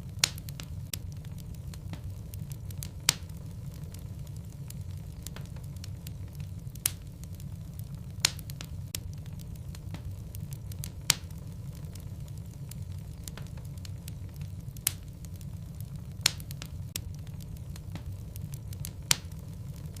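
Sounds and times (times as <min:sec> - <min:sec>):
logs burning in fireplace: 0:00.0 - 0:20.0
sharp pops of fire: 0:00.0 - 0:20.0.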